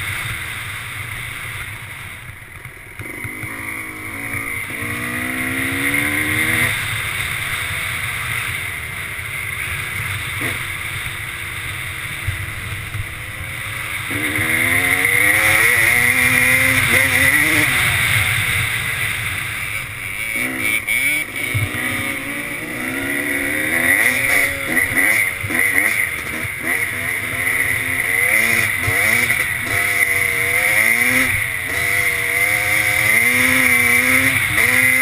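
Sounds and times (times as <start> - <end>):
motorcycle engine shifting gears: 0.2 - 35.0.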